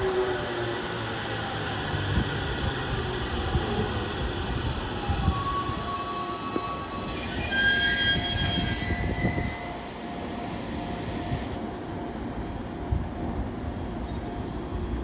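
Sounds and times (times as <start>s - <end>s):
electric train rumbling past: 0.0s - 15.0s.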